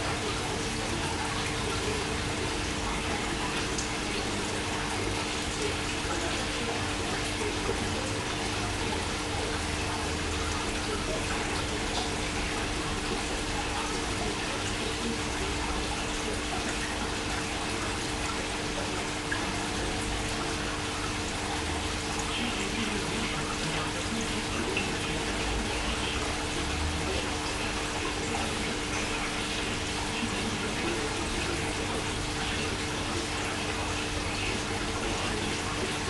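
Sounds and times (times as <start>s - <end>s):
aquarium water rushing: 0.0s - 36.0s.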